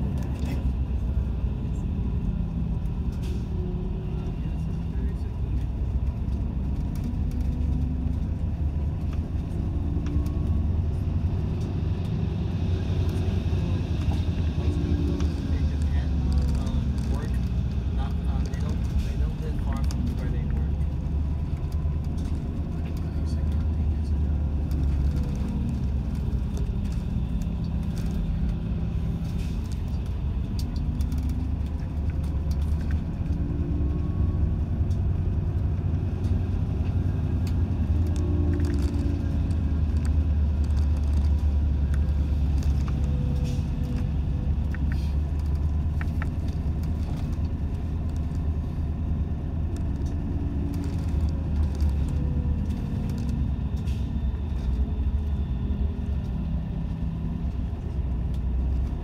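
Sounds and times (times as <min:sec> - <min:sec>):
bus engine and tyres rumbling: 0:00.0 - 0:59.0.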